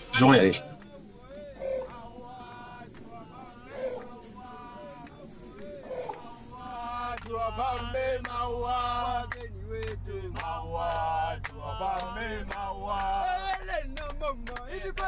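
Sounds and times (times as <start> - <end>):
men singing a chant-like song: 0.0 - 15.0.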